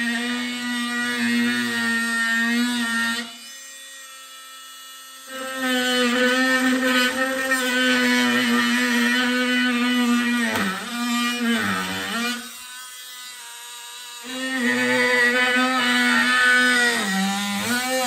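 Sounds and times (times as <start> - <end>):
oscillating multi-tool buzzing: 0.0 - 18.0.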